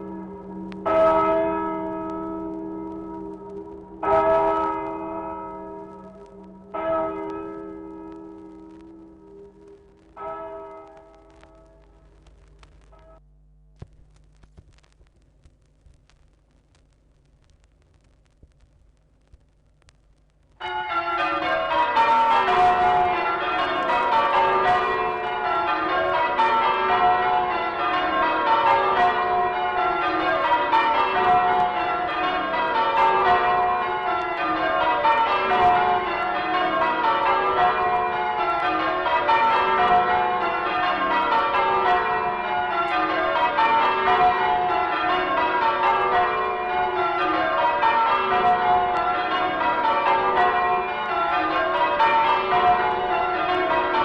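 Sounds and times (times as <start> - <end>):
church bells ringing changes: 0.0 - 11.9, 20.6 - 54.0.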